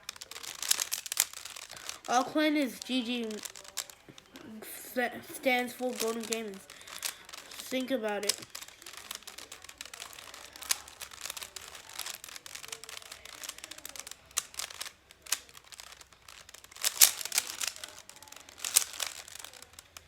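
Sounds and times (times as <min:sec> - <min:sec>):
crinkling rustle with clicks: 0:00.0 - 0:20.0.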